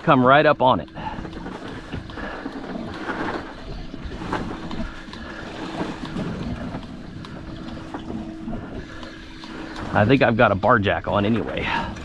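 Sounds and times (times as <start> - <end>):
boat motor running slow: 0.0 - 12.0
steady hum: 0.0 - 12.0
water around hull: 0.0 - 12.0.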